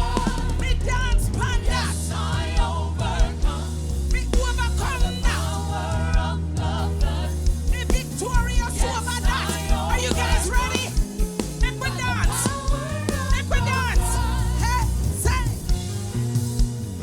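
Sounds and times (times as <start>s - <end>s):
bass: 0.0s - 17.0s
gospel band playing: 0.0s - 17.0s
steady drum beat: 0.0s - 17.0s.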